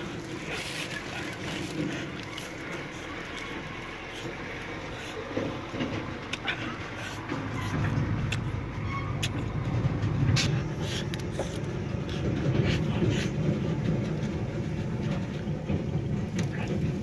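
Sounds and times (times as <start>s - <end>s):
mouth clicks and smacks eating: 0.0s - 9.6s, 10.3s - 15.5s, 16.3s - 17.0s
steady low rumble: 0.0s - 17.0s.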